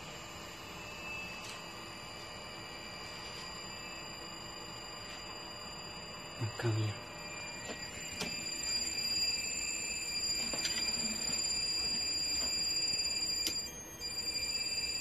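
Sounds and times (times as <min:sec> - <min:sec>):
electric motor high-pitched whine: 0:00.0 - 0:15.0.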